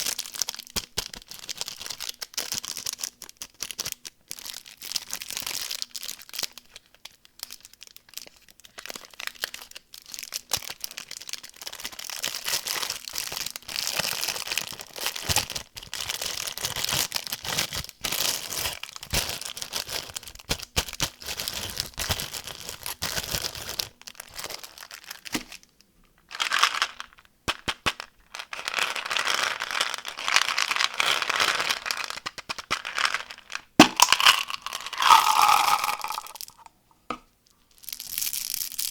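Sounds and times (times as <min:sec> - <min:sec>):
candy wrappers crinkling: 0:00.0 - 0:25.7, 0:26.3 - 0:36.7, 0:37.7 - 0:38.9.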